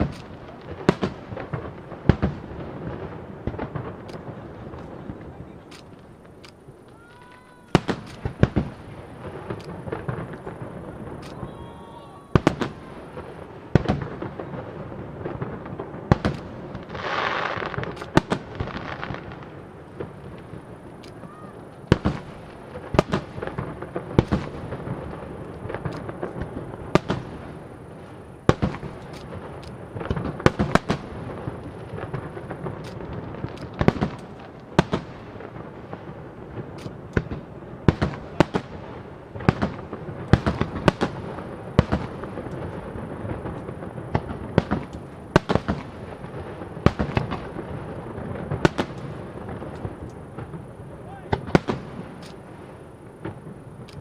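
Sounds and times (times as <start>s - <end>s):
fireworks bangs: 0.0s - 54.0s
fireworks hissing rush: 0.0s - 54.0s.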